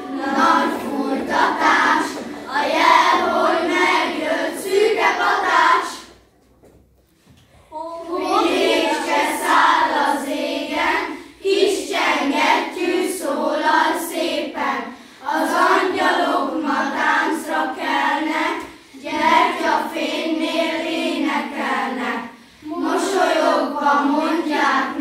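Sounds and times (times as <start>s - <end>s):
children singing together: 0.0s - 6.2s, 7.6s - 25.0s.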